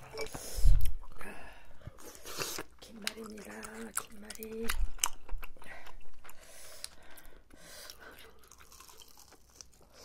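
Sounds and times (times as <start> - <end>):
crunchy food being chewed: 2.0 - 10.0.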